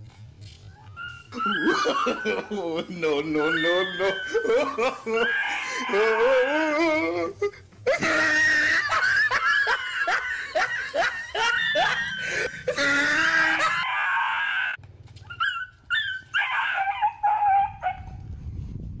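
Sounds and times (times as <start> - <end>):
dog yelping and crying: 0.8 - 7.3, 7.9 - 18.1.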